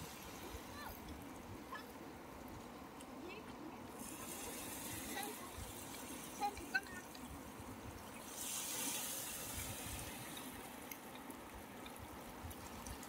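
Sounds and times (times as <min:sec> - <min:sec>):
water washing and trickling: 0:00.0 - 0:13.0
faint drip-like ticks: 0:00.8 - 0:13.0.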